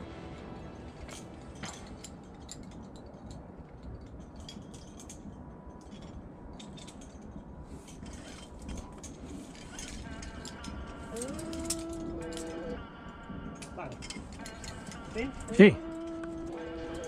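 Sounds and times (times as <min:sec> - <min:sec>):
metal climbing gear clinking: 0:00.0 - 0:17.0.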